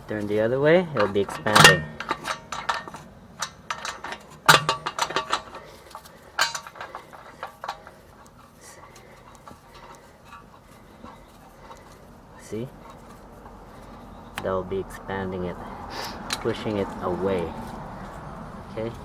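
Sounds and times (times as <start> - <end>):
metallic clicks of brake adjuster: 0.0 - 14.6, 16.2 - 18.2.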